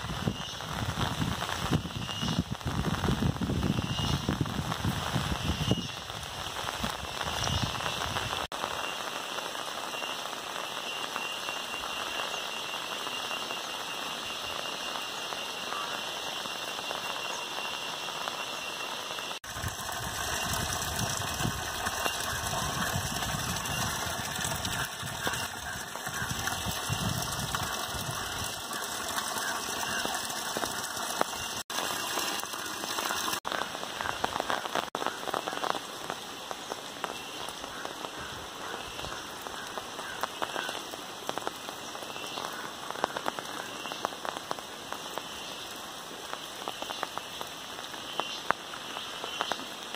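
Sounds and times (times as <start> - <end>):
rain falling on trees and roofs: 0.0 - 49.9.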